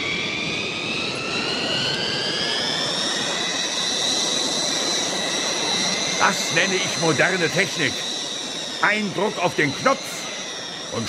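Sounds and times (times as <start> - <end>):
jet rush with rising whine: 0.0 - 11.0.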